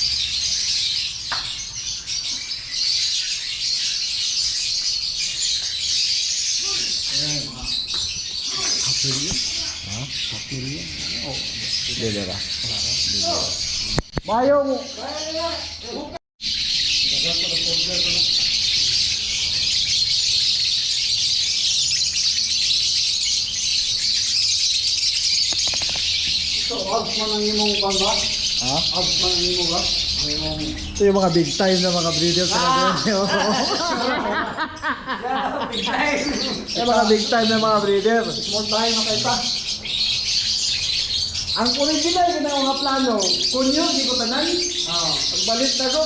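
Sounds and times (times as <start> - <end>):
flock of lovebirds twittering: 0.0 - 46.0.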